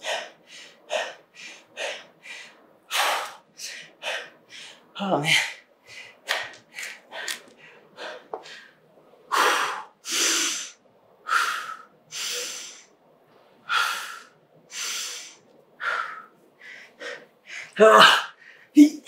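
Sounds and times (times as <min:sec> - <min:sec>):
man breathing hard: 0:00.0 - 0:12.9, 0:13.6 - 0:18.8.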